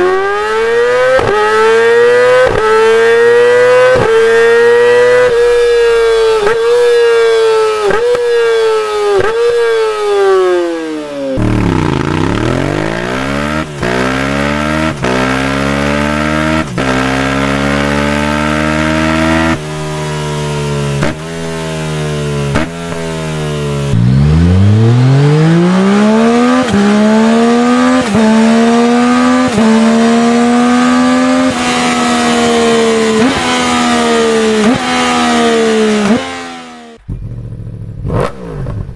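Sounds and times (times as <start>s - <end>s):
motorcycle accelerating through gears: 0.0s - 38.9s.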